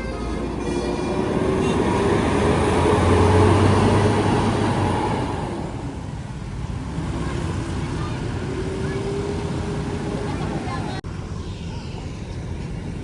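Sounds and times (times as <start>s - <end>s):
bus driving past: 0.0s - 13.0s.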